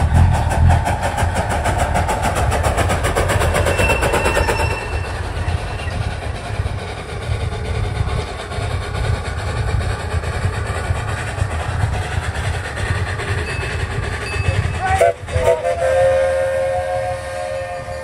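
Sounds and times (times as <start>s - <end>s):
steam locomotive running past: 0.0s - 18.0s.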